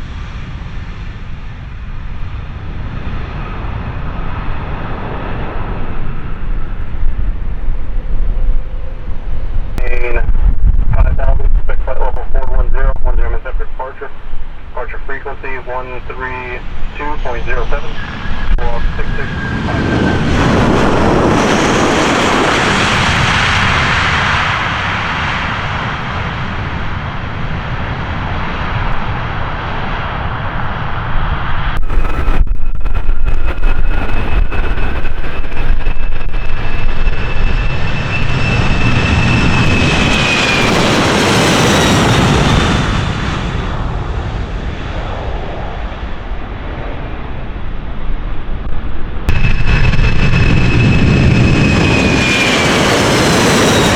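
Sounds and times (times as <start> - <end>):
jet engine high whine: 0.0 - 53.9
jet engines rushing: 0.0 - 53.9.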